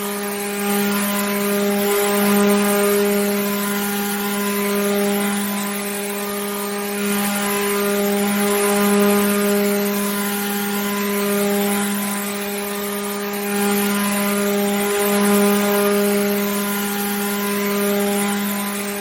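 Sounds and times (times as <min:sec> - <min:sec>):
electric water pump humming: 0:00.0 - 0:19.0.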